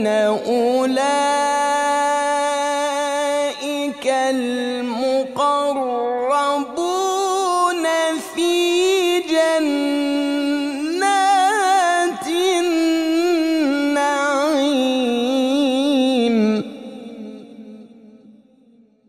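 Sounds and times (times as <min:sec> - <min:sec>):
man reciting melodically: 0:00.0 - 0:18.3.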